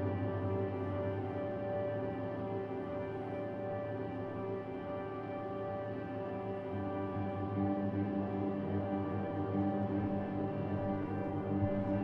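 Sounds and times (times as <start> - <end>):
ambient electric guitar drone: 0.0 - 12.0.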